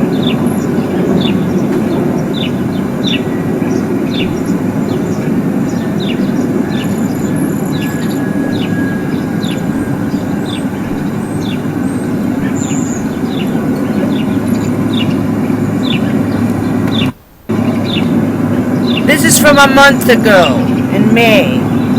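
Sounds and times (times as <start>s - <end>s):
bird chirping: 0.0s - 21.9s
low rumbling drone: 0.0s - 21.9s.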